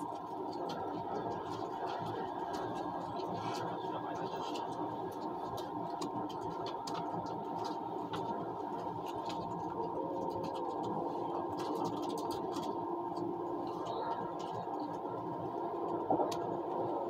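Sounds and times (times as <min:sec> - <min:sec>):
light clicks and scratches: 0:00.0 - 0:15.2
train running hum: 0:00.0 - 0:17.0.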